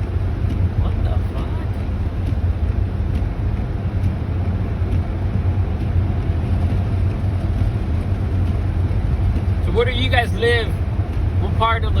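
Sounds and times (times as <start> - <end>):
car cabin engine and road noise: 0.0 - 12.0.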